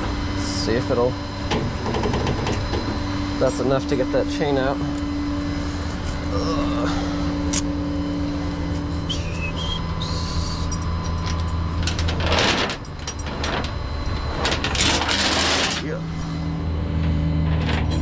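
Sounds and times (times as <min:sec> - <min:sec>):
truck engine hum: 0:00.0 - 0:15.1, 0:15.8 - 0:18.0
winch whine: 0:00.0 - 0:18.0.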